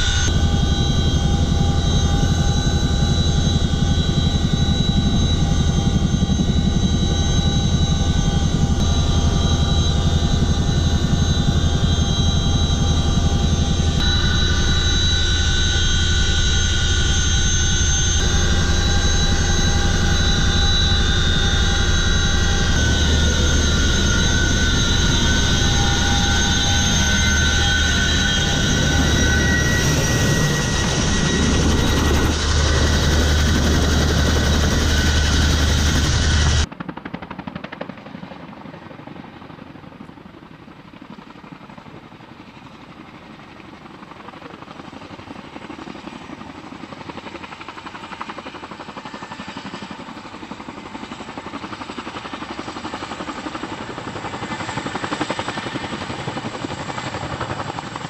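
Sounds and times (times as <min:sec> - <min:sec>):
helicopter cabin drone: 0:00.0 - 0:58.0.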